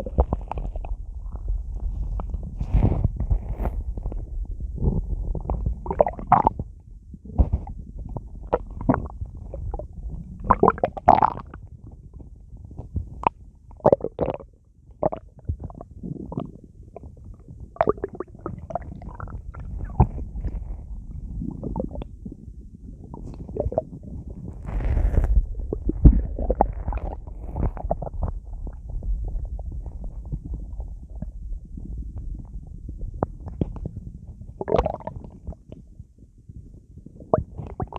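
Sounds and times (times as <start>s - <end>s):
stomach gurgling and rumbling: 0.0s - 37.9s.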